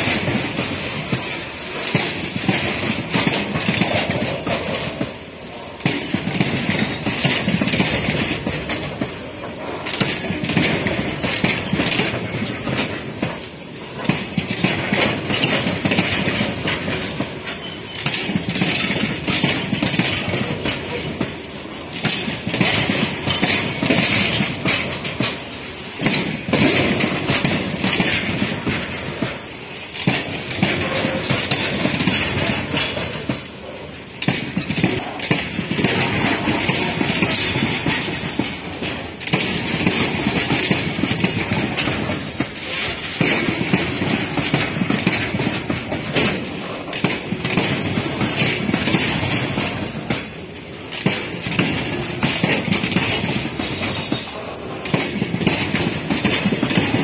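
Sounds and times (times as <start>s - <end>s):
steel wheels clattering on rails: 0.0s - 57.0s.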